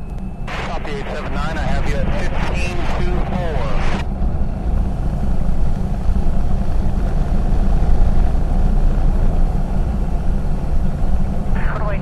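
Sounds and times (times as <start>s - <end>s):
aircraft engine and propeller drone: 0.0s - 12.0s.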